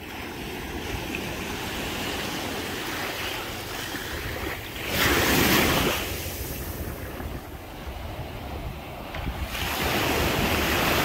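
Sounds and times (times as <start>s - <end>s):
surf washing along beach: 0.0s - 11.0s
wind buffeting microphone: 0.0s - 11.0s.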